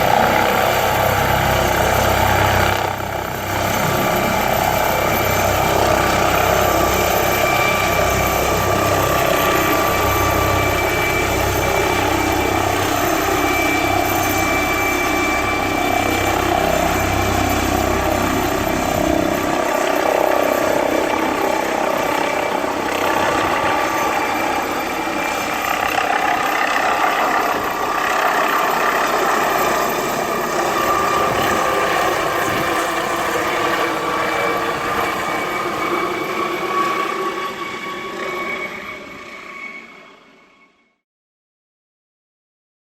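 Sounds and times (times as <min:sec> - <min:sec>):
helicopter rotor noise: 0:00.0 - 0:40.8
helicopter turbine whine: 0:00.0 - 0:41.0.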